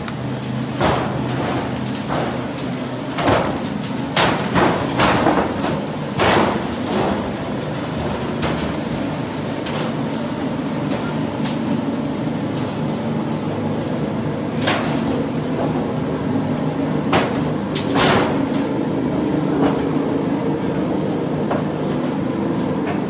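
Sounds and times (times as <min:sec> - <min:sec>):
machine rollers droning: 0:00.0 - 0:23.0.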